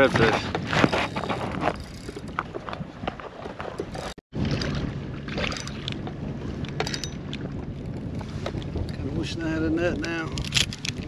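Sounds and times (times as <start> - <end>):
water lapping against kayak hull: 0.0 - 11.0
wind: 0.0 - 11.0.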